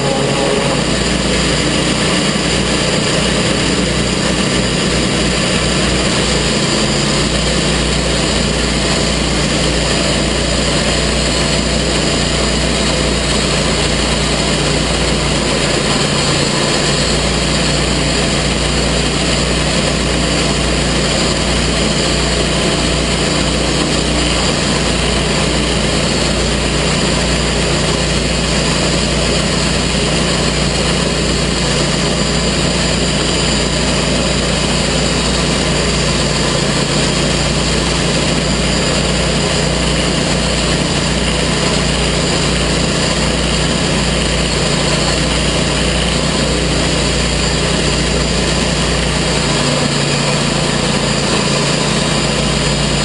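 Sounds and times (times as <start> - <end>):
sawmill engine running: 0.0 - 53.0.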